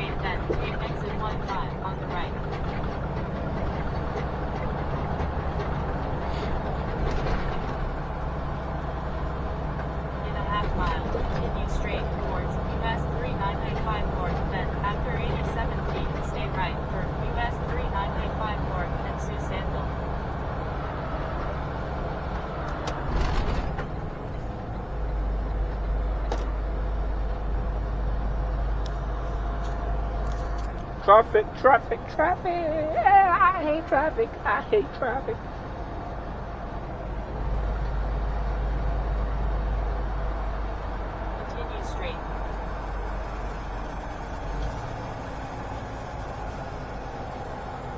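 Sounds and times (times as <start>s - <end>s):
road and wind noise: 0.0s - 47.9s
truck engine drone: 0.0s - 47.9s.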